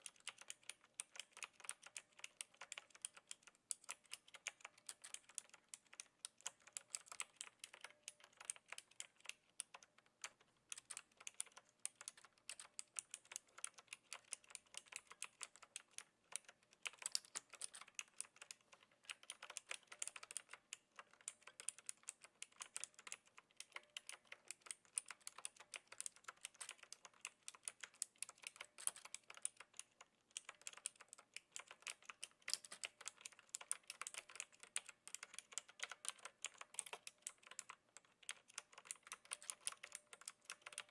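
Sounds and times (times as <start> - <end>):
clicky keyboard typing: 0.0 - 40.9.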